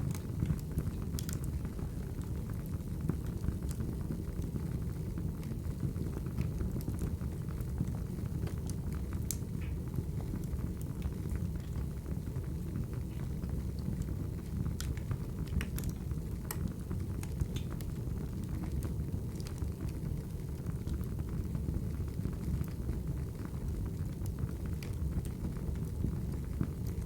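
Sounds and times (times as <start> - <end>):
low rumble of burning logs: 0.0 - 27.0
wood fire crackling and popping: 0.0 - 27.0.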